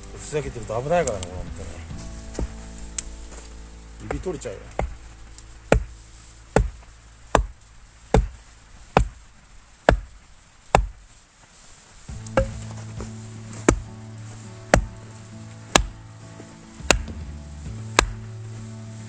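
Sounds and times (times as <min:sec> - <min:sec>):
axe chopping firewood: 0:00.1 - 0:11.1, 0:12.1 - 0:15.0, 0:15.6 - 0:16.0, 0:16.8 - 0:18.3.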